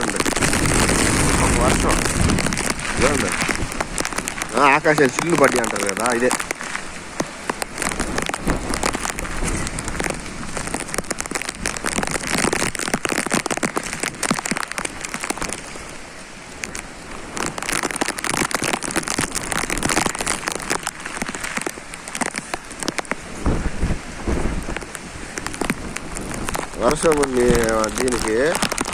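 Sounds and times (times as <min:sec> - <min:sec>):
heavy rain hissing: 0:00.0 - 0:28.9
raindrops pattering: 0:00.0 - 0:28.9
wind buffeting microphone: 0:00.0 - 0:28.9.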